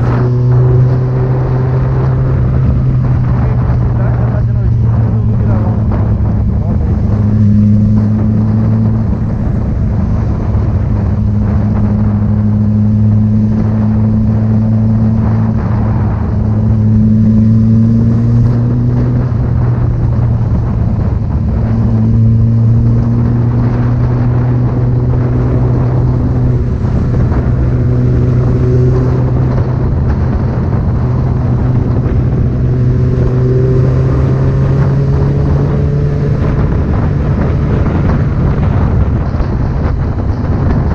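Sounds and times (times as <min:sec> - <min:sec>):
loud engine running: 0:00.0 - 0:40.9.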